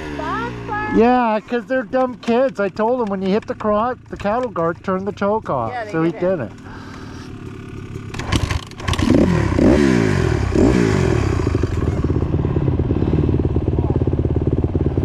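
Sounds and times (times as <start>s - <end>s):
dirt bike engine starting and revving: 0.0s - 15.0s.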